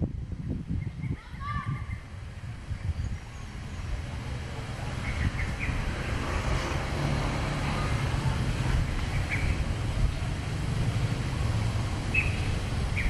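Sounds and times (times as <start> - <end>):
vehicle engine rumble passing: 2.4 - 13.0.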